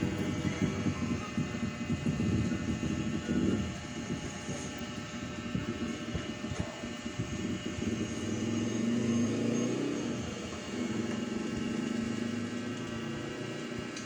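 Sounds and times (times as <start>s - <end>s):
low shifting rumble: 0.0s - 14.0s.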